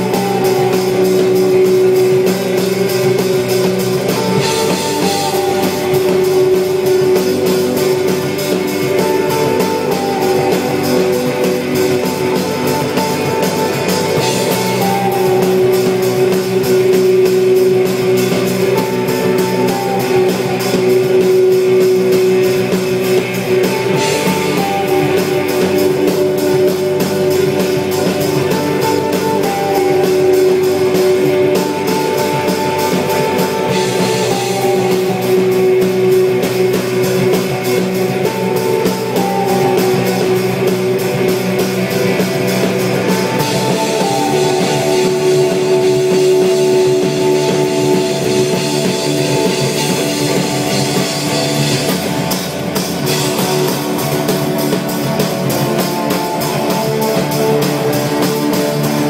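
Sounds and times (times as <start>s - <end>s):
drum beat: 0.0s - 59.0s
electric guitar: 0.0s - 59.0s.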